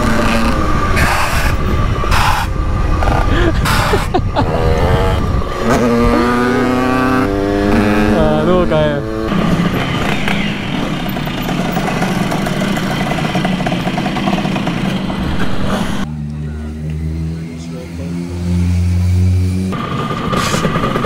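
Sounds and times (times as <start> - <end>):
two-stroke moped engines running: 0.0 - 21.0.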